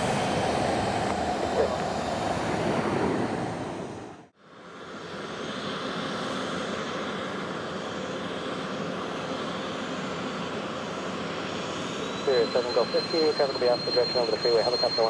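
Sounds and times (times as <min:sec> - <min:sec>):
jet engine rush and whine: 0:00.0 - 0:15.0.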